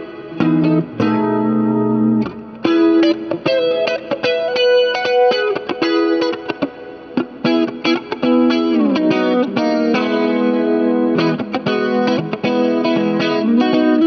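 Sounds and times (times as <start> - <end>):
electric guitar notes: 0.0 - 14.0.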